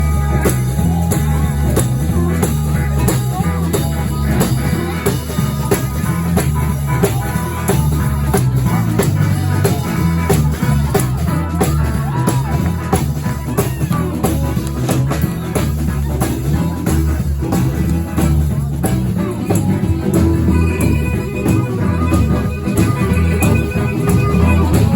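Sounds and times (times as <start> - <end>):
blues band playing: 0.0 - 24.9
steady drum beat: 0.0 - 24.9.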